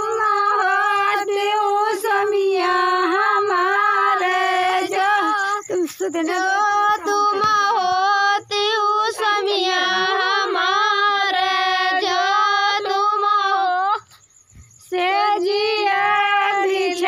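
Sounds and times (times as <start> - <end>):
woman singing folk song: 0.0 - 14.1, 14.8 - 17.0.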